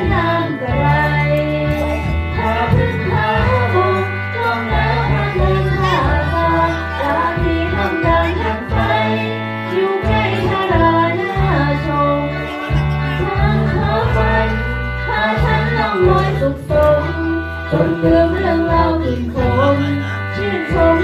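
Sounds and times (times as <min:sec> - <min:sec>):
low bass notes: 0:00.0 - 0:21.0
song with sung melody: 0:00.0 - 0:21.0.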